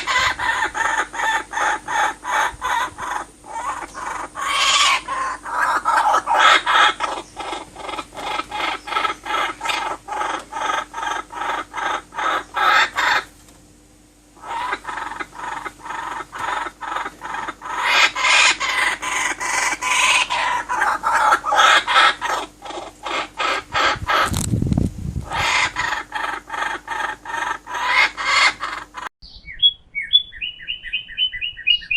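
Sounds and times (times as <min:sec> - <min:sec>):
bird short repeated calls: 0:00.0 - 0:13.3, 0:14.4 - 0:24.3, 0:25.3 - 0:31.9.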